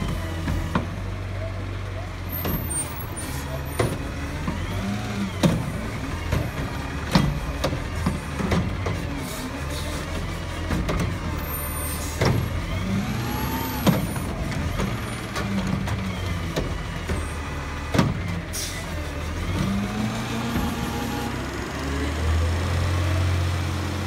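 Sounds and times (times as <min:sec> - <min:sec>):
garbage truck engine humming: 0:00.0 - 0:24.0.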